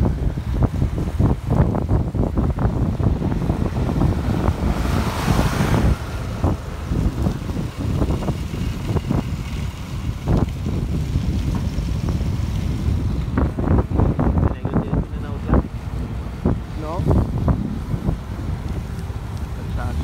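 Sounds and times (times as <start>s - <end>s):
low road rumble: 0.0s - 20.0s
passing vehicle rush: 0.0s - 20.0s
wind buffeting microphone: 0.0s - 20.0s.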